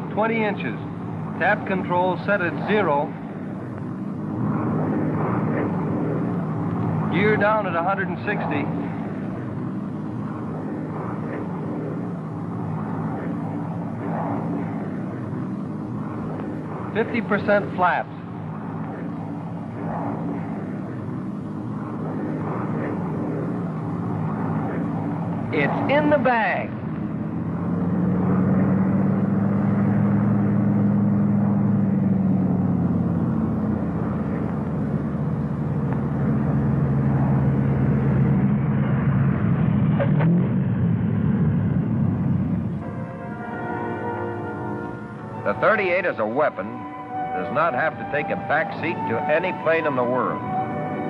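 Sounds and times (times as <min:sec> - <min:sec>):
propeller aircraft engines droning: 0:00.0 - 0:51.0.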